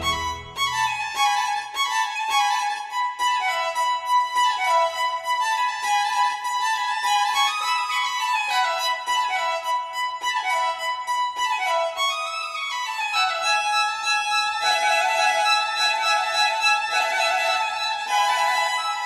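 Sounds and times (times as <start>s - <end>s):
violin melody: 0.0s - 19.0s.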